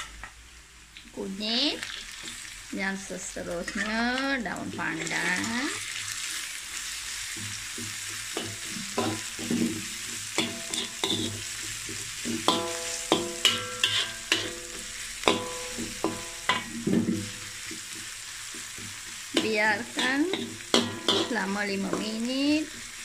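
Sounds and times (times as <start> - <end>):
food sizzling in oil: 0.4 - 23.0
metal spatula scraping wok: 3.3 - 23.0.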